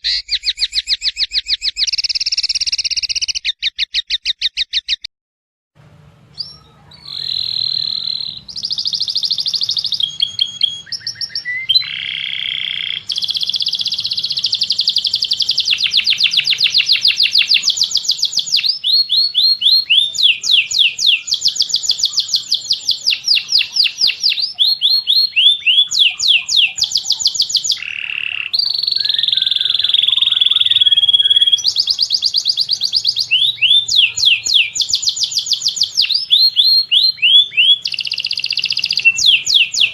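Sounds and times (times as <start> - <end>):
songbird whistles and trills: 0.0 - 5.1, 6.3 - 39.9.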